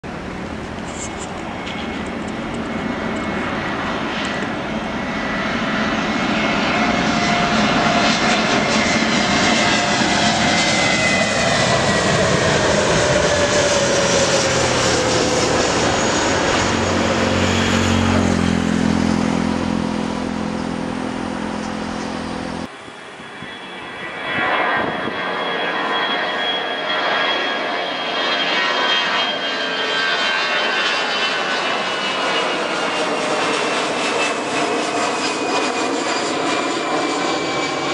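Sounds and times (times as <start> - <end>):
low jet engine drone: 0.0 - 37.9
jet passing overhead: 0.1 - 37.9.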